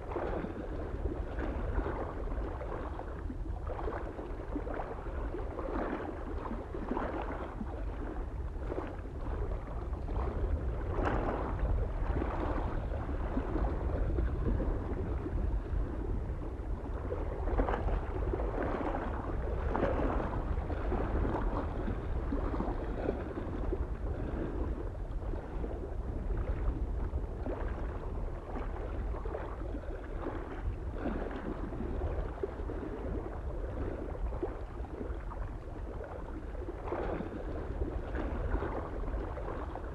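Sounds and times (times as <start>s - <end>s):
lake waves lapping at shore: 0.0s - 39.9s
low wind rumble: 0.0s - 39.9s.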